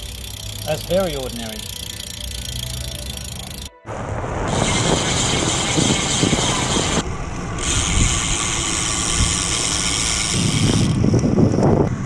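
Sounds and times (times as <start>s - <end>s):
bike freehub buzzing: 0.0s - 3.8s, 4.4s - 12.0s
wind: 0.0s - 12.0s.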